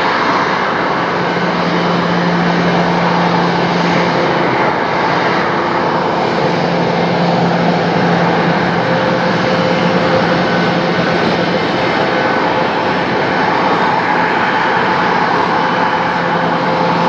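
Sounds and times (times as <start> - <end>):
jet engines roaring: 0.0 - 17.0
thin engine whine: 0.0 - 17.0.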